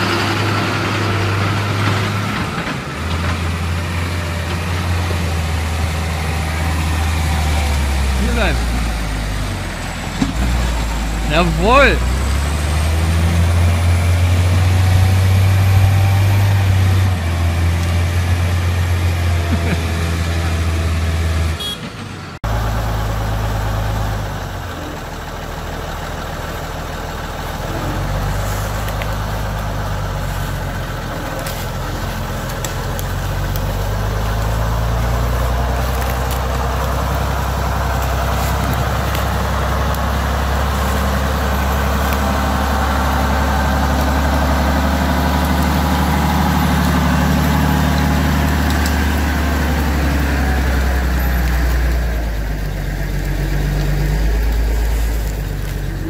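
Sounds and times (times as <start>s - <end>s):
diesel engine revving: 0.0s - 56.0s
diesel engine under load: 0.0s - 56.0s.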